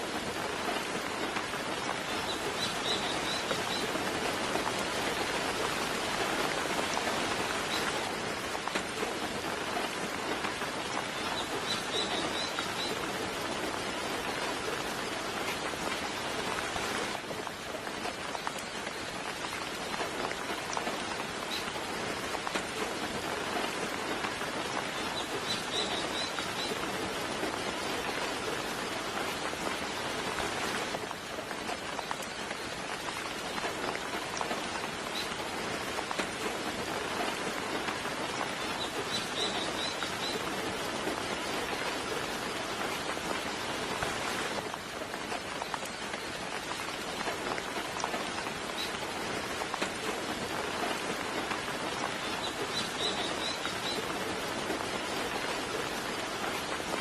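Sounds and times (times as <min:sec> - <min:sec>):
soft rain falling: 0:00.0 - 0:57.0.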